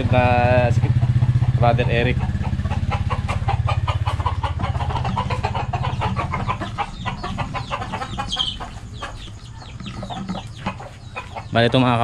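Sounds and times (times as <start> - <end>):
chickens clucking: 0.0 - 12.0
motorcycle engine running: 0.0 - 12.0.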